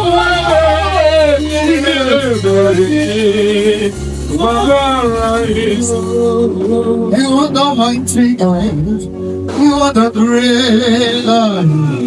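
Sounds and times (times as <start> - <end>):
bass accompaniment: 0.0 - 12.0
person singing gospel: 0.0 - 12.0.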